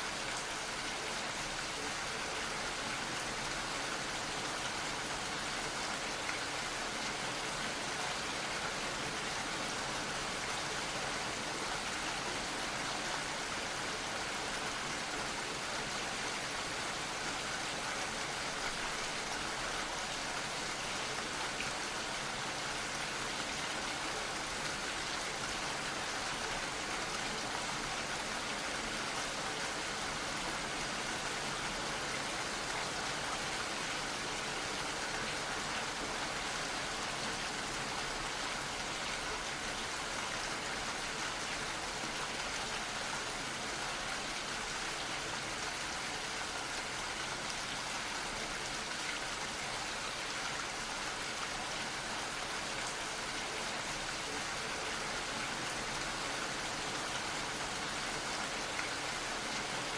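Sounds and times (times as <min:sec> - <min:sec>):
gentle rain falling: 0:00.0 - 0:59.9.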